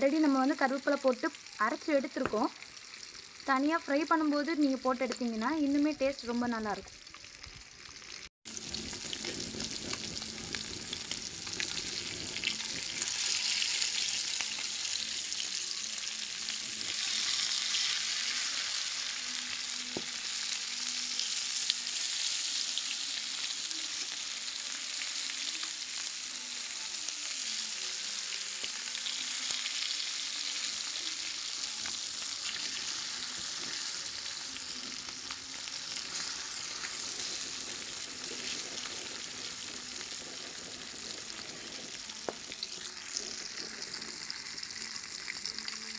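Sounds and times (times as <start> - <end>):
fish sizzling in oil: 0.0 - 45.9.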